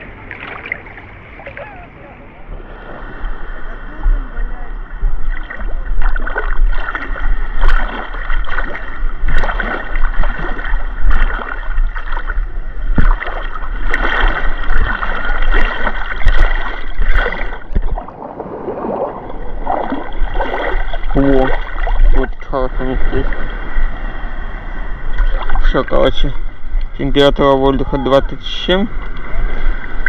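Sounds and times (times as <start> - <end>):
seawater splashing and sloshing: 0.0 - 30.0.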